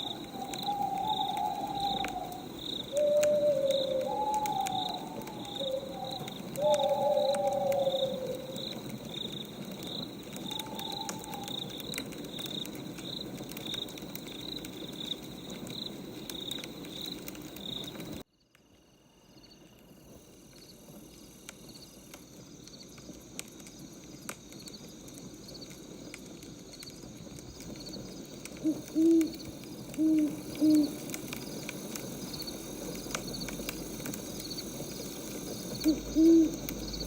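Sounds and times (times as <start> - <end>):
wood fire crackling: 0.0 - 18.3, 19.7 - 37.0
crickets chirping: 0.0 - 37.0.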